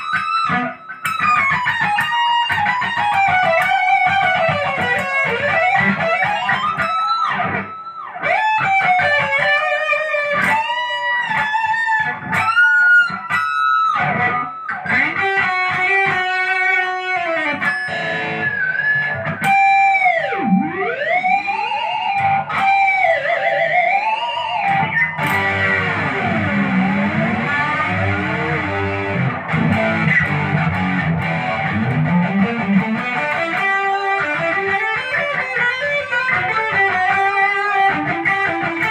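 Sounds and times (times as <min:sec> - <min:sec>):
electric guitar solo: 0:00.0 - 0:38.9.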